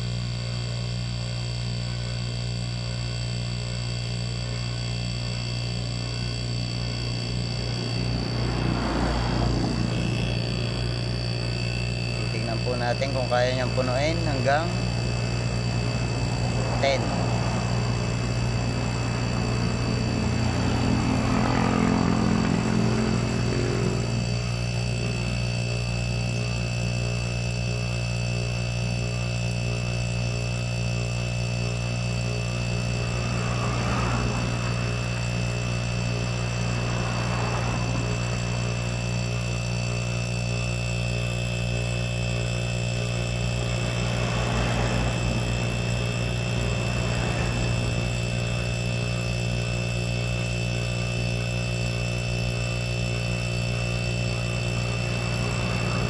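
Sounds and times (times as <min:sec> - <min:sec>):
air compressor humming: 0:00.0 - 0:56.0.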